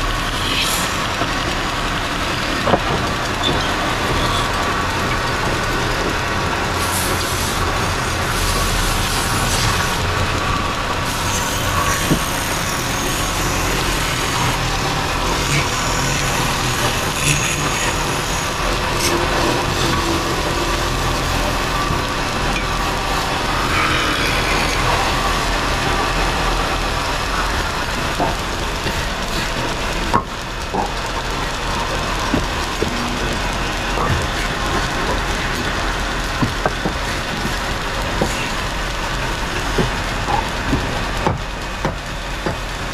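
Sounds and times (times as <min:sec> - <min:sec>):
wood lathe motor hum: 0:00.0 - 0:42.7.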